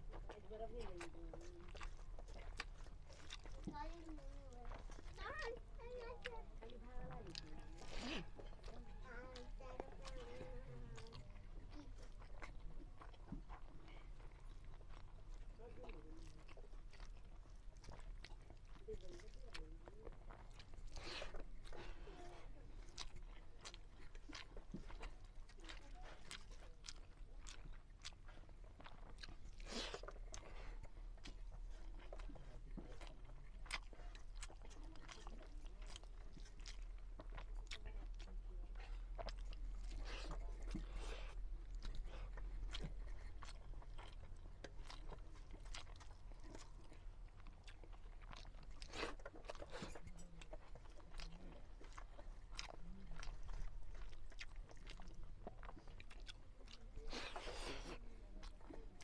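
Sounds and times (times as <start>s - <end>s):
man chewing with wet mouth clicks: 0.0s - 59.0s.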